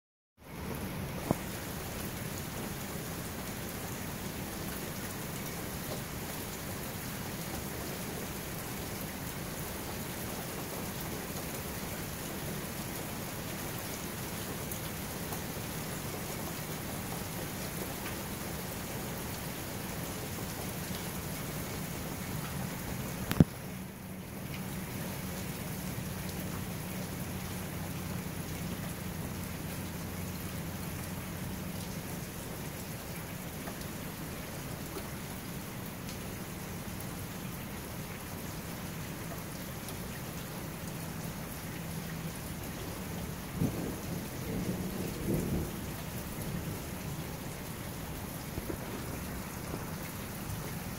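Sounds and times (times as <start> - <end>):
steady rain falling: 0.4 - 50.9.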